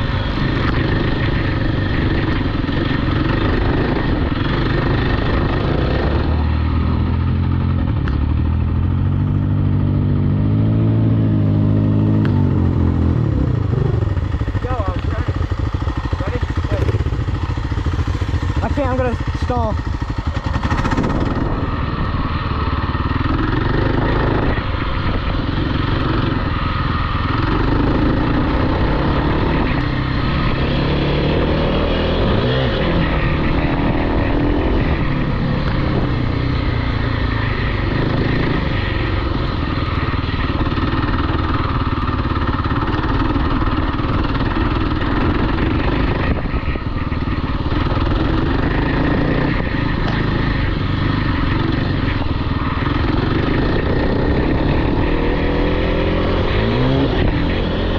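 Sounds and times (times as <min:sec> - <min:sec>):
off-road vehicle engine running: 0:00.0 - 0:57.9.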